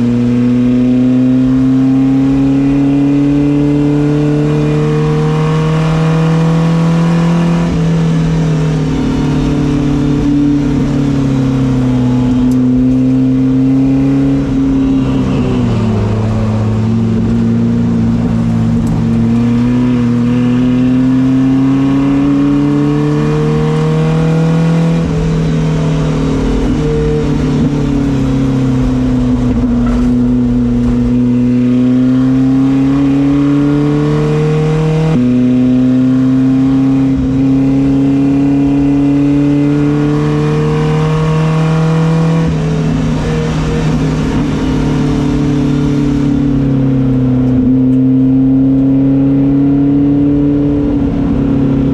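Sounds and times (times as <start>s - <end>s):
car engine running hard: 0.0s - 51.9s.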